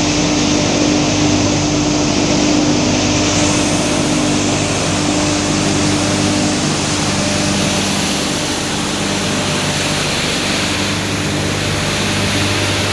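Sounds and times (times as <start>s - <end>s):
hammer mill running: 0.0s - 12.9s.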